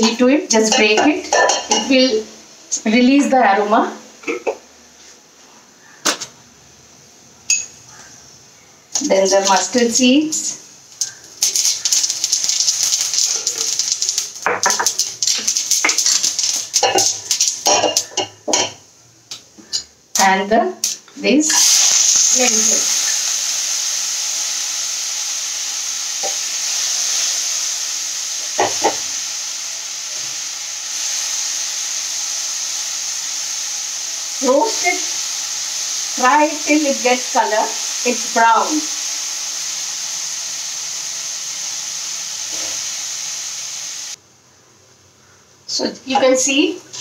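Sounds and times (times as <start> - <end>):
seeds sizzling in hot oil: 0.0 - 6.0, 6.6 - 44.2.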